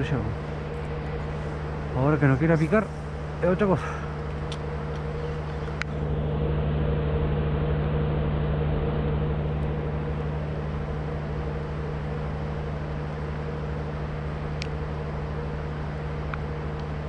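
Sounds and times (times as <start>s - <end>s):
motor droning: 0.0s - 17.0s.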